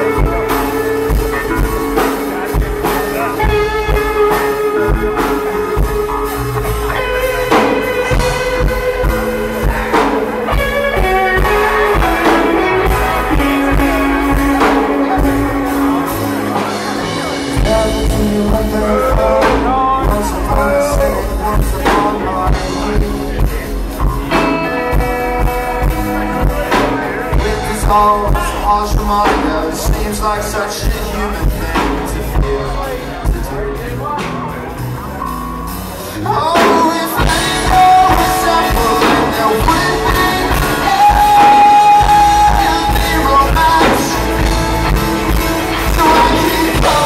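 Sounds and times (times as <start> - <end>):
person singing: 0.0 - 34.4, 36.0 - 47.0
bass guitar: 0.0 - 47.0
drum kit: 0.0 - 47.0
electric guitar: 0.0 - 47.0.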